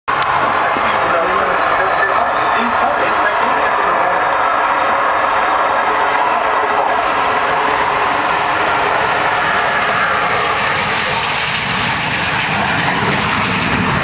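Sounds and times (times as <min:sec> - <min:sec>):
jet engine roar: 0:00.1 - 0:14.0.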